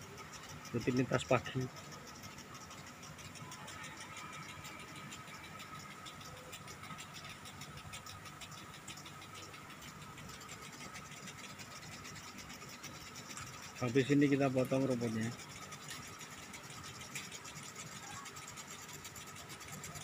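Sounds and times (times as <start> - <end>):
sprinkler spray ticking: 0.0 - 20.0.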